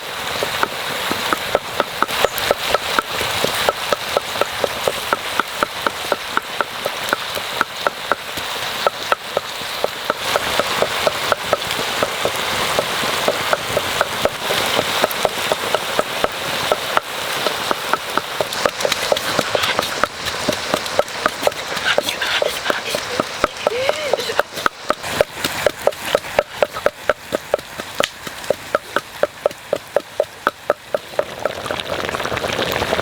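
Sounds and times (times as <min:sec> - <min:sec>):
meat sizzling with pops: 0:00.0 - 0:33.0.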